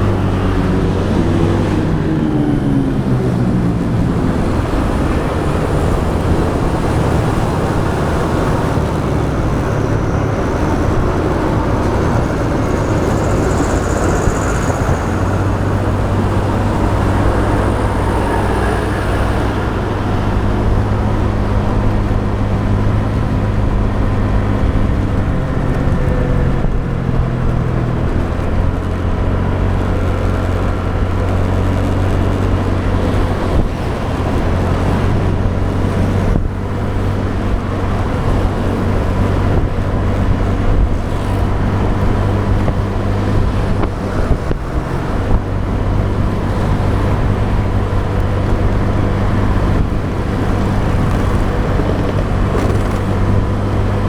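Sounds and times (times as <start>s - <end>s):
motorbike engine running: 0.0s - 54.0s
road and wind noise: 0.0s - 54.0s.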